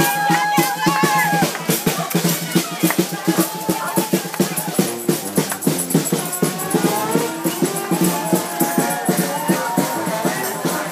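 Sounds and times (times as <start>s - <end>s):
drums beating: 0.0s - 10.9s
brass band playing: 0.1s - 10.9s.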